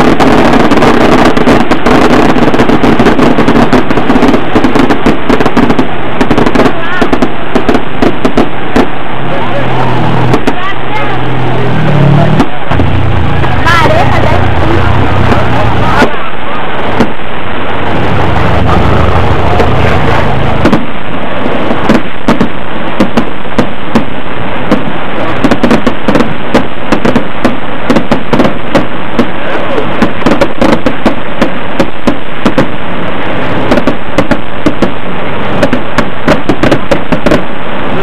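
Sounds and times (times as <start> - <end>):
firecrackers popping and crackling: 0.0 - 38.0
steady background noise: 0.0 - 38.0.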